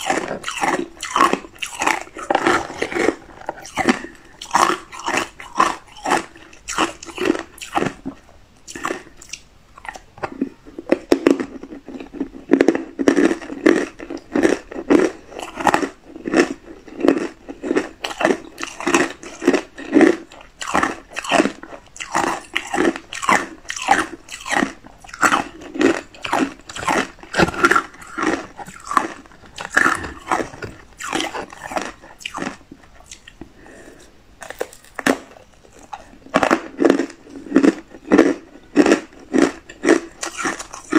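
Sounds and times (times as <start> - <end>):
ice crunching while chewed: 0.0 - 40.9.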